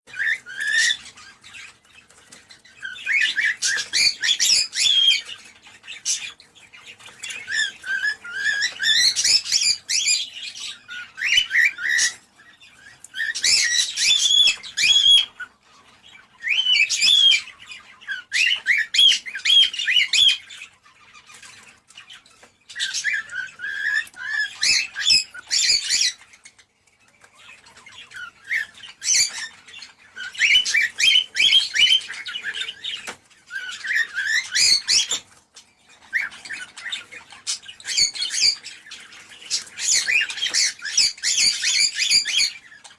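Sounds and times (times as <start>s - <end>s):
cockatiels chirping and warbling: 0.1s - 42.9s.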